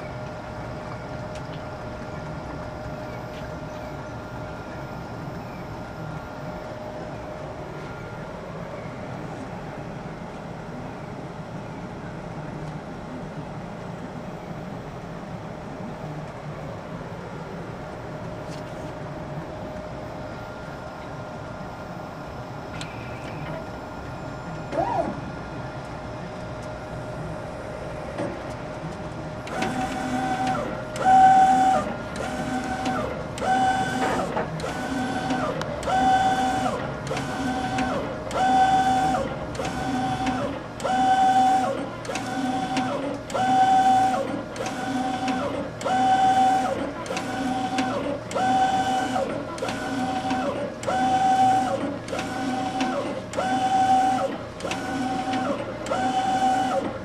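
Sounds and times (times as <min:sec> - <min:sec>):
print head motor whine: 0:00.0 - 0:12.2, 0:16.9 - 0:57.0
printer hum: 0:00.0 - 0:57.0.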